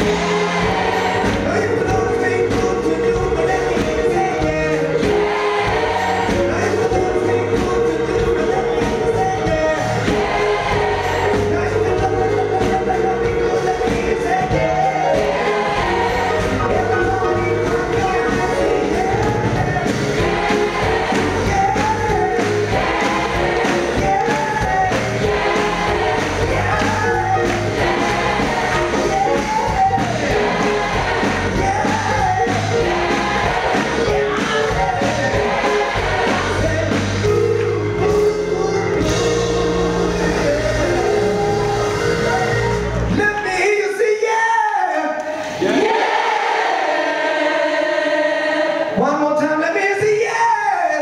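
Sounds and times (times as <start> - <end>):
gospel choir with live band: 0.0 - 51.0.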